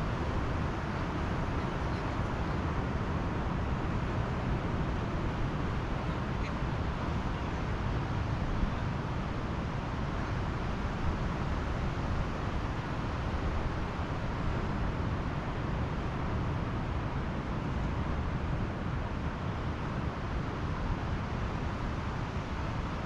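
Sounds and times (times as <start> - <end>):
surf washing on beach: 0.0 - 23.0.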